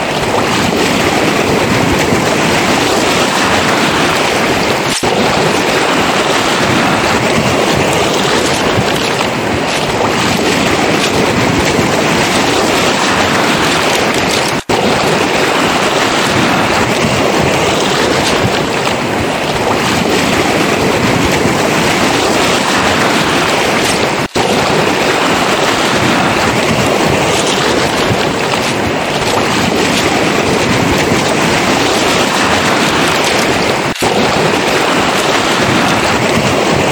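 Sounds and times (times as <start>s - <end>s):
surf washing over pebbles: 0.0s - 36.9s
wind on microphone: 0.0s - 36.9s.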